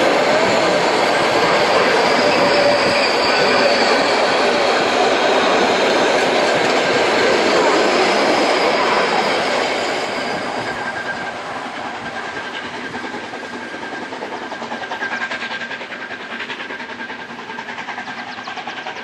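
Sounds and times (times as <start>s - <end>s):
train wheels clacking over rails: 0.0s - 19.0s.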